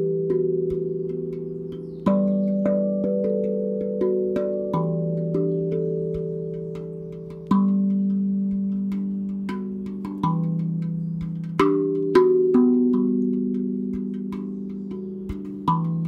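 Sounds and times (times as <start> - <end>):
steel tongue drum melody: 0.0 - 16.0.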